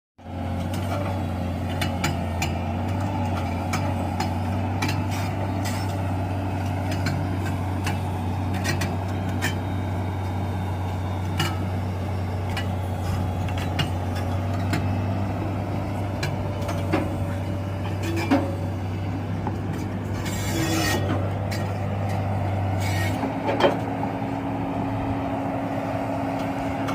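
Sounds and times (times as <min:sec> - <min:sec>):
excavator engine drone: 0:00.2 - 0:26.9.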